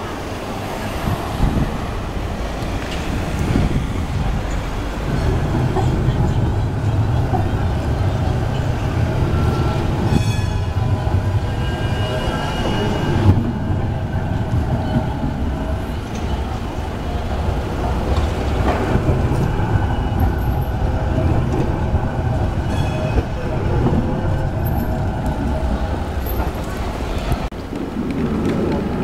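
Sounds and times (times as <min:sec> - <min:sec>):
tram rumbling on rails: 0:00.0 - 0:29.0.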